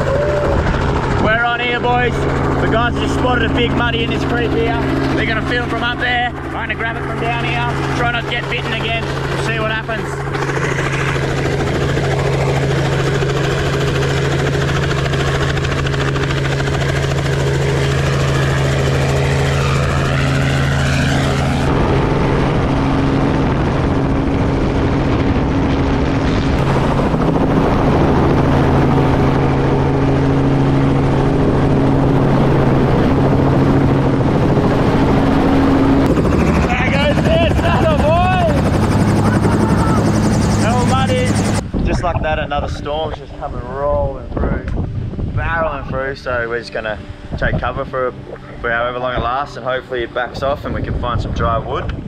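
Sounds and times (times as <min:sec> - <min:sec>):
helicopter engine and rotor drone: 0:00.0 - 0:52.0.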